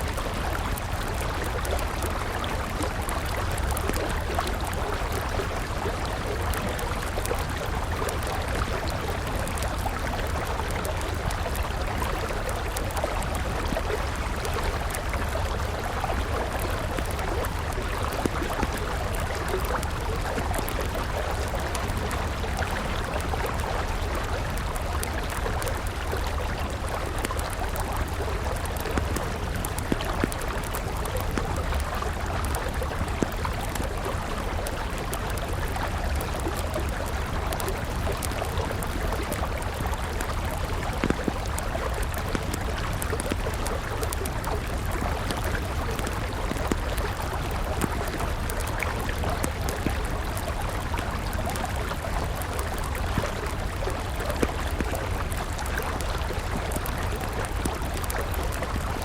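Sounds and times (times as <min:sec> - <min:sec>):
campfire crackling: 0:00.0 - 0:59.0
river flowing: 0:00.0 - 0:59.0.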